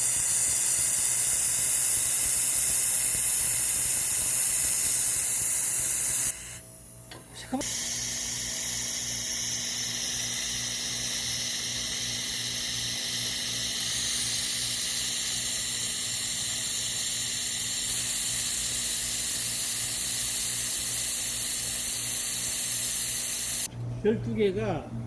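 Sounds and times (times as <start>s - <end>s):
laser welder hissing: 0.0s - 6.7s, 7.5s - 23.7s.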